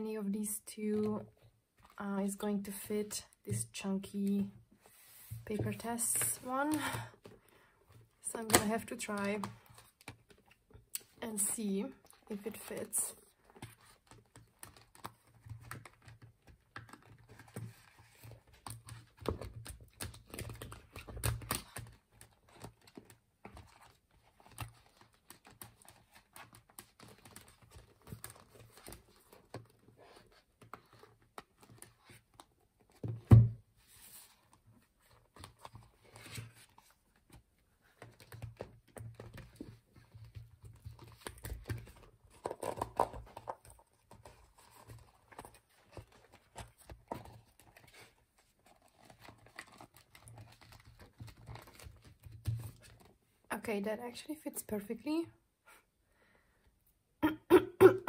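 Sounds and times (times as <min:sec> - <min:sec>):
paper and plastic rustles and taps: 0:05.2 - 0:53.2.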